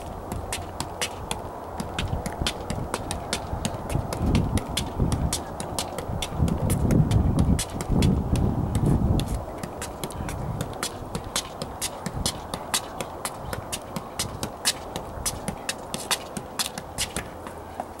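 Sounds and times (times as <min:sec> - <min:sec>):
foot tapping soccer ball: 0:00.0 - 0:18.0.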